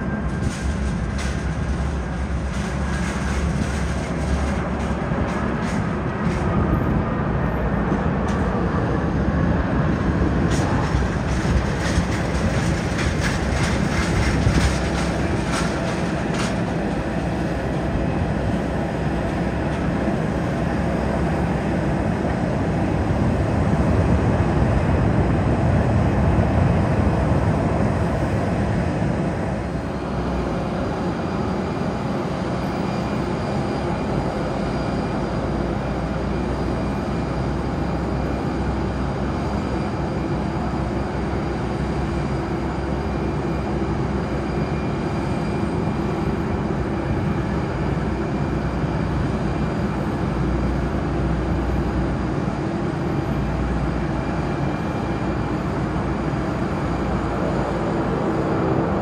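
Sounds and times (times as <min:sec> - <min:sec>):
jet airliner engines running: 0:00.0 - 0:59.0.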